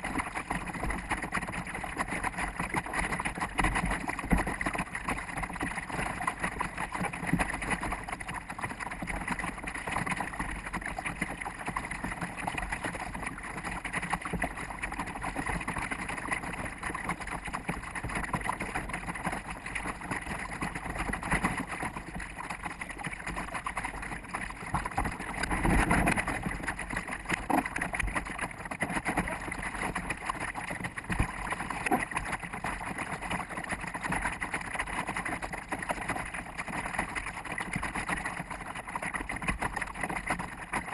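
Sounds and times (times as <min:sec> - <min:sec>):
water rushing along hull: 0:00.0 - 0:40.9.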